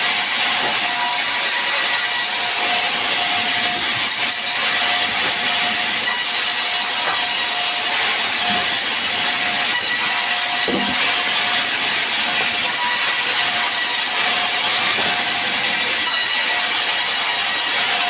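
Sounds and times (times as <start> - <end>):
sawmill saw cutting wood: 0.0 - 18.0.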